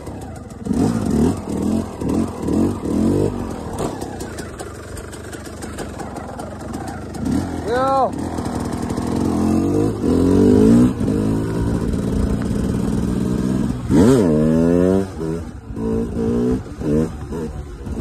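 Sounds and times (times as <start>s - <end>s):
two-stroke dirt bike engine revving: 0.0s - 18.0s.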